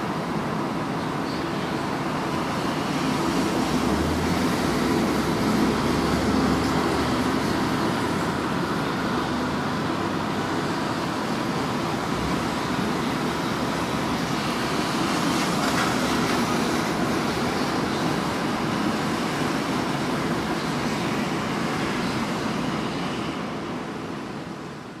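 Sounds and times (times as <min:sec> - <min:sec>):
car tyres hissing on wet road: 0:02.0 - 0:24.6.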